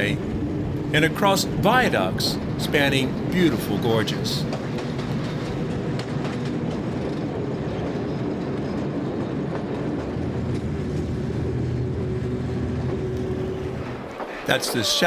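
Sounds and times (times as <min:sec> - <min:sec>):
train carriages rumbling: 0:00.0 - 0:15.0
wheels clicking over rail joints: 0:00.0 - 0:15.0.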